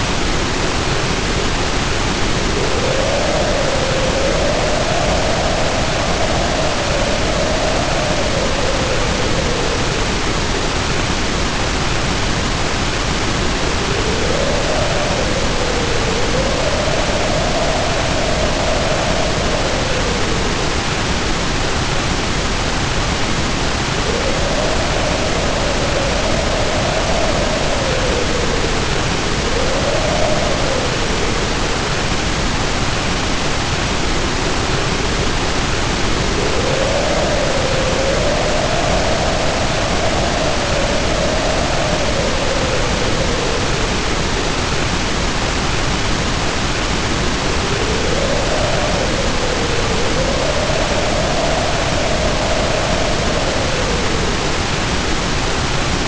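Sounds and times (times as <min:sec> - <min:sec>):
heavy rain rushing: 0:00.0 - 0:56.0
wind howling: 0:00.0 - 0:56.0.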